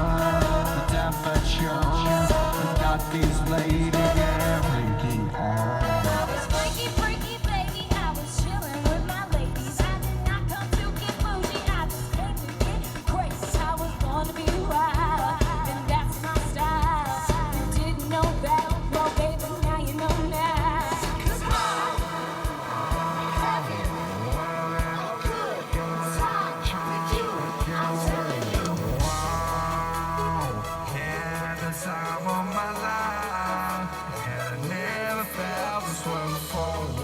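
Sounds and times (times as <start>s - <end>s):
bass: 0.0s - 37.0s
person singing: 0.0s - 37.0s
steady drum beat: 0.0s - 37.0s.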